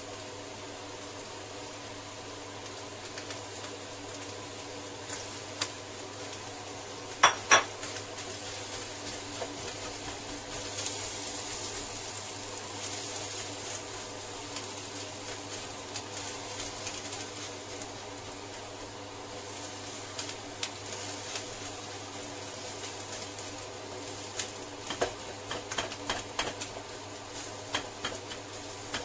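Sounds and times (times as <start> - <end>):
light sizzle: 0.0 - 29.0.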